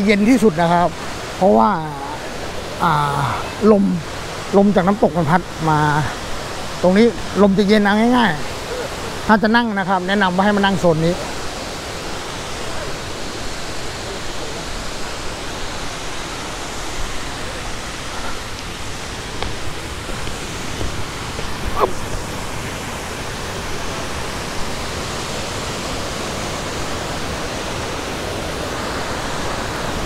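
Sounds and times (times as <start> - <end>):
waterfall roar: 0.0 - 30.0.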